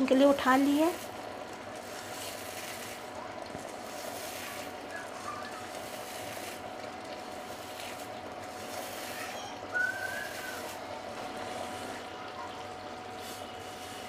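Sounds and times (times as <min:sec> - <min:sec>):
sauce sizzling in hot oil: 0:00.0 - 0:14.0
fried onions crushed by hand: 0:00.6 - 0:12.0.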